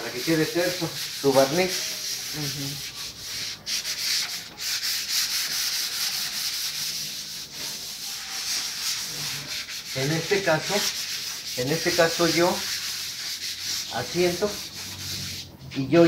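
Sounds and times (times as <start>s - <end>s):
sandpaper rubbing on wood: 0.0s - 15.9s.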